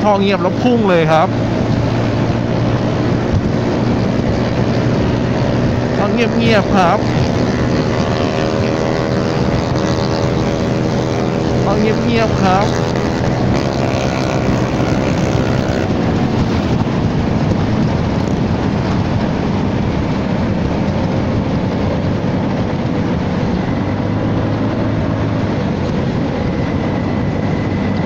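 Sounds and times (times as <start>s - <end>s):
scooter engine drone: 0.0s - 28.0s
wind rush on microphone: 0.0s - 28.0s.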